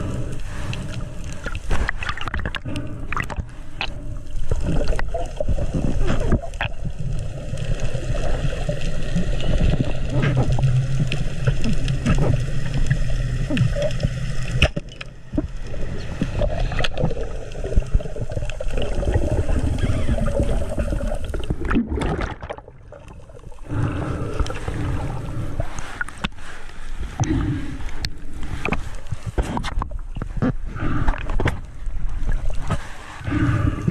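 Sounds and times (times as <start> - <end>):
crackles and pops: 0.0 - 33.9
underwater rushing and gurgling: 0.0 - 33.9.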